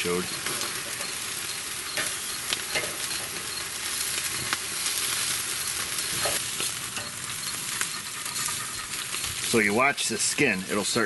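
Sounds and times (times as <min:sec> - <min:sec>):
chicken sizzling over charcoal: 0:00.0 - 0:11.0.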